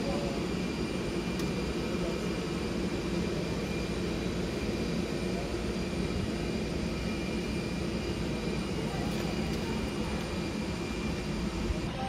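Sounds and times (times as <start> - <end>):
high-pitched whine: 0.0 - 12.0
jet aircraft engine hum: 0.0 - 12.0.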